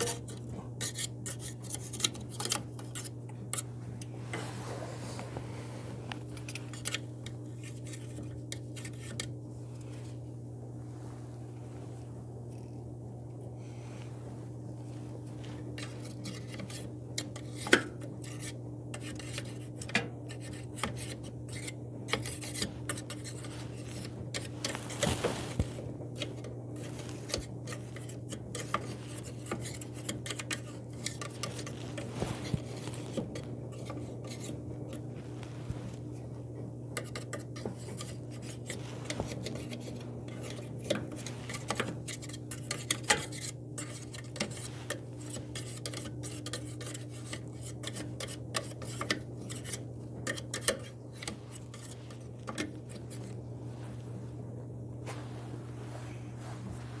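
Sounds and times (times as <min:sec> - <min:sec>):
scraping lint from dryer housing: 0:00.0 - 0:12.7, 0:13.7 - 0:57.0
steady low hum: 0:00.0 - 0:57.0.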